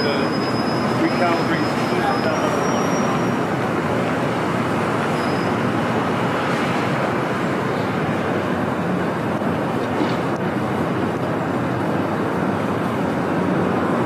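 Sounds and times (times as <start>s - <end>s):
traffic rumble and hiss: 0.0s - 14.0s.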